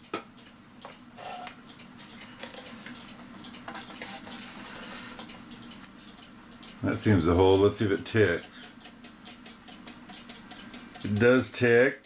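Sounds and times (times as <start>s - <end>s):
clock movement clicks and taps: 0.0s - 12.0s.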